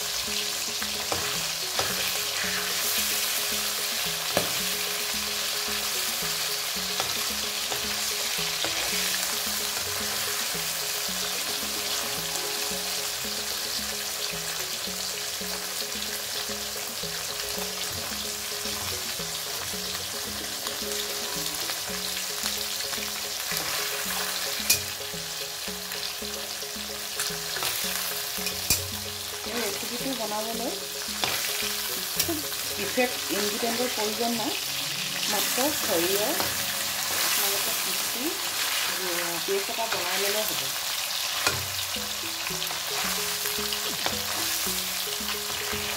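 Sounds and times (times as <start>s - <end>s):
fish sizzling in hot oil: 0.0s - 45.9s.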